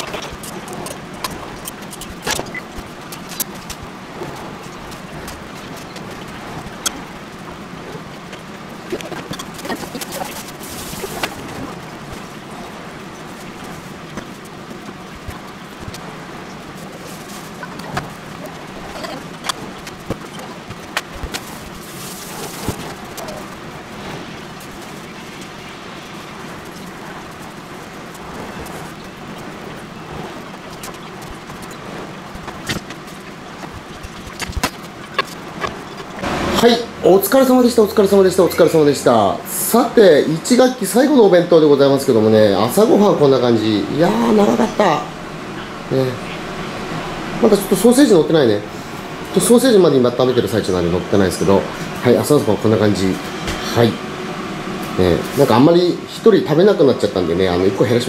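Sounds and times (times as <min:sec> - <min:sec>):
background noise rush: 0:00.0 - 0:58.0
kitchen background hiss: 0:00.0 - 0:58.0.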